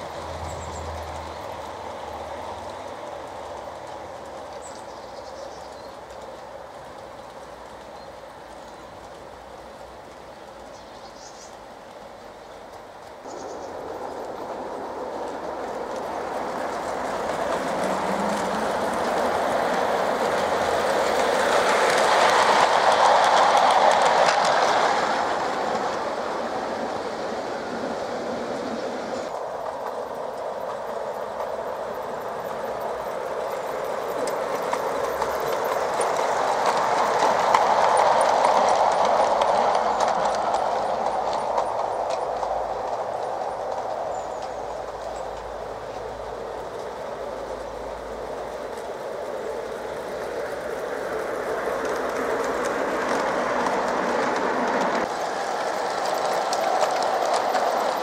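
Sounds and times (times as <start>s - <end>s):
model train wheels clicking: 0.0s - 58.0s.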